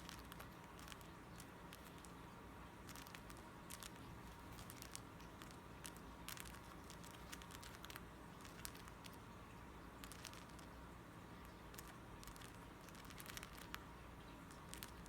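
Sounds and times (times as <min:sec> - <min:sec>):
bird beaks clicking together: 0:00.0 - 0:02.2, 0:02.9 - 0:09.2, 0:10.0 - 0:10.8, 0:11.4 - 0:15.0
low steady hum: 0:00.0 - 0:15.0.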